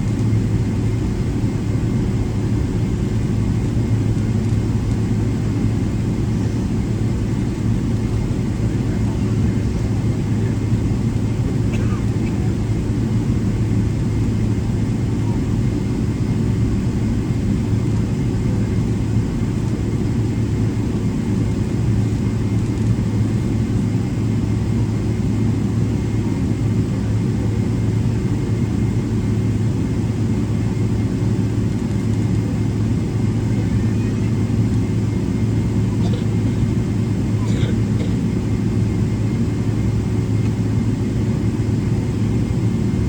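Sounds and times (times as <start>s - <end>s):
aircraft cabin low drone: 0.0s - 43.0s.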